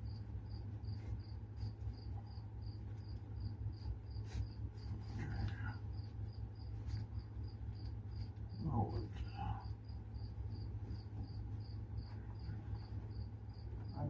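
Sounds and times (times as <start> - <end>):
cricket chirping: 0.0 - 14.0
low steady hum: 0.0 - 14.0.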